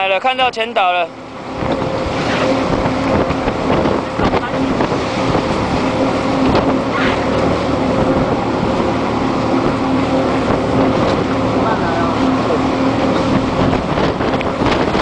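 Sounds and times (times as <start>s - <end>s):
boat engine humming: 0.0s - 15.0s
wind on microphone: 1.4s - 15.0s.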